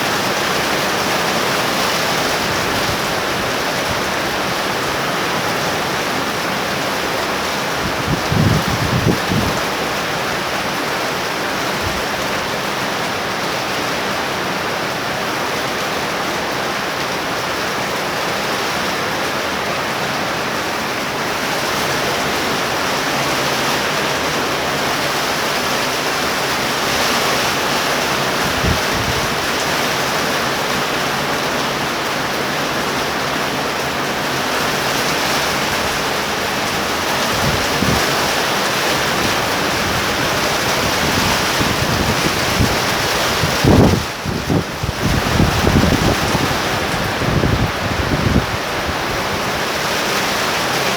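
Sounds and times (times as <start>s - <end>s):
torrential rain hissing: 0.0s - 50.9s.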